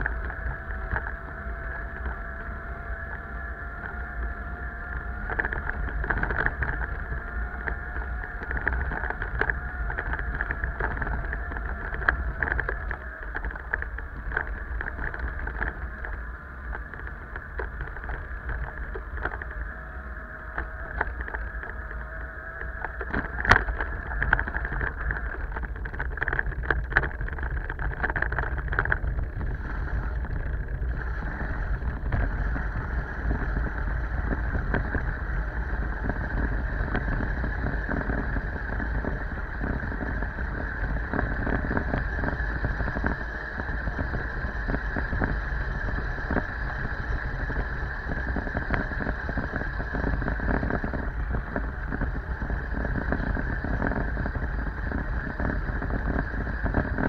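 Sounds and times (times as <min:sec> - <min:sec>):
small rattles: 0:00.0 - 0:57.0
wind and road noise: 0:00.0 - 0:57.0.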